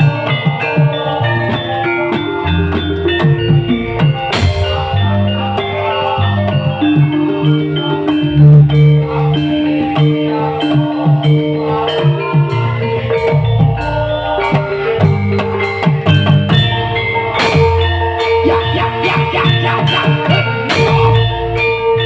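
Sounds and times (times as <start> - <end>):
drums beating steady rhythm: 0.0 - 22.0
live band music: 0.0 - 22.0.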